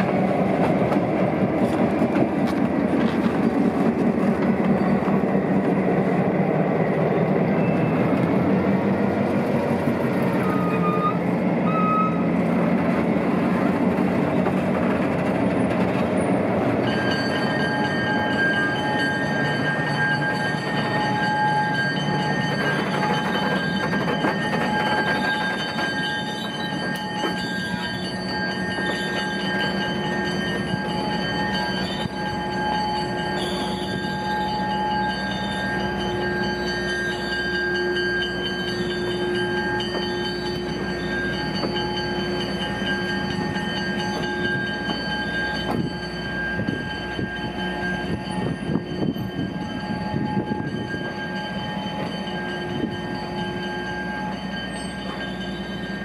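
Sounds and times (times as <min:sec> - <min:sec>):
low train rumble: 0:00.0 - 0:56.0
train wheels squealing: 0:01.5 - 0:08.7, 0:09.3 - 0:12.5, 0:13.2 - 0:56.0.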